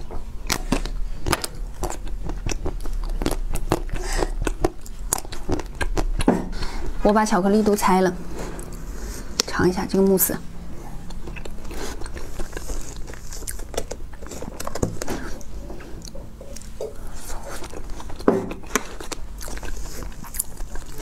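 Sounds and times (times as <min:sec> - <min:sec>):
wet mouth clicks chewing: 0:00.0 - 0:06.8, 0:10.7 - 0:21.0.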